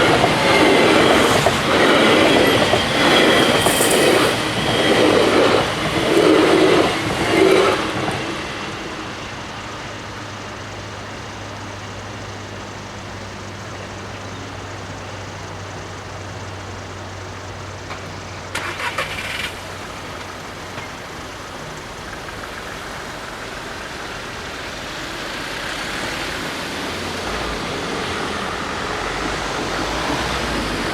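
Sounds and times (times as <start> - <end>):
electric train rumbling: 0.0 - 30.9
traffic noise: 0.0 - 30.9.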